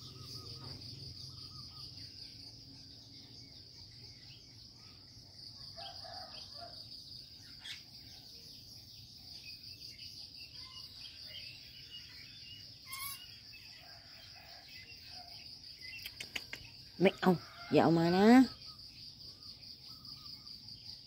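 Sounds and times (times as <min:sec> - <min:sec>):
bird chirps: 0:00.0 - 0:17.2, 0:18.2 - 0:21.0
insects trilling: 0:00.0 - 0:21.0.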